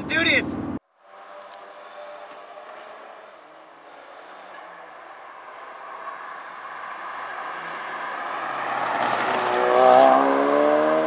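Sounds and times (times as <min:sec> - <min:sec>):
car engine passing at speed: 0:00.6 - 0:11.0.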